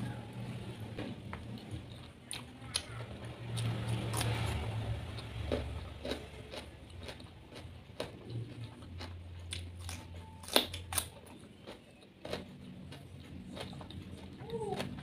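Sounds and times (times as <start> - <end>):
chewing: 1.0 - 15.0.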